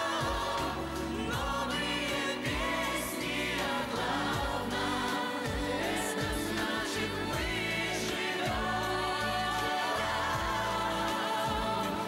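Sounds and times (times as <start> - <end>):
voices singing pop song in chorus: 0.0 - 12.0.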